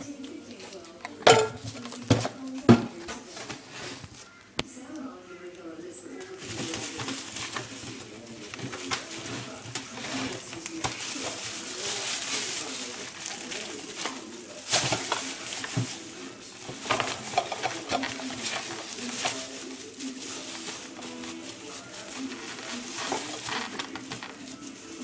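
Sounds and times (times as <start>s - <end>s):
plastic bin liner rustling: 0.5s - 4.3s, 6.3s - 25.0s.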